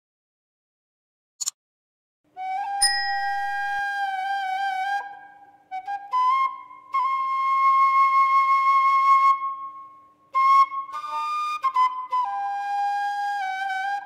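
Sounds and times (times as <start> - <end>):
flute-like melody: 2.3 - 14.0.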